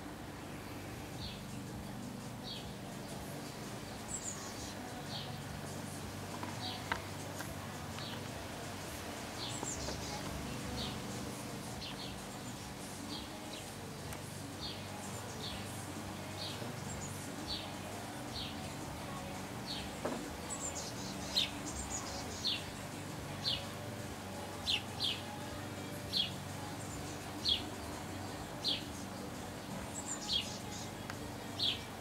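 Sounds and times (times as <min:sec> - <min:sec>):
faint low hum: 0:00.0 - 0:32.0
songbird calling: 0:00.0 - 0:32.0.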